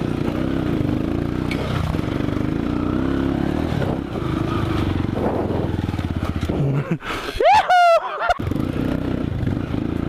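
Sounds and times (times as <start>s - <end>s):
dirt bike engine revving: 0.0s - 6.9s, 8.4s - 10.0s.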